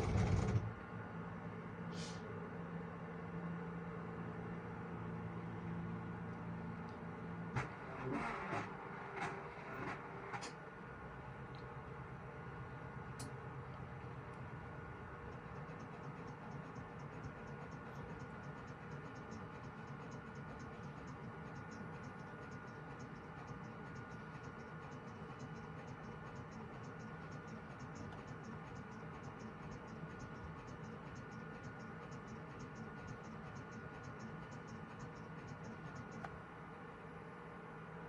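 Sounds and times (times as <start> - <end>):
mechanical hum: 0.0 - 38.0.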